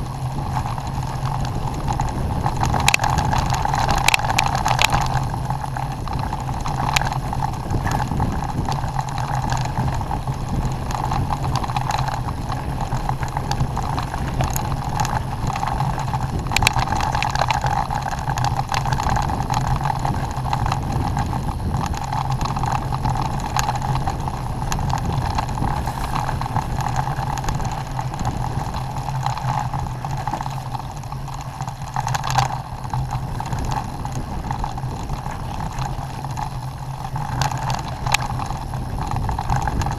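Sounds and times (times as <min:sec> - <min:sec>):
knocks and rattles over rough ground: 0:00.0 - 0:39.9
off-road vehicle engine running: 0:00.0 - 0:39.9.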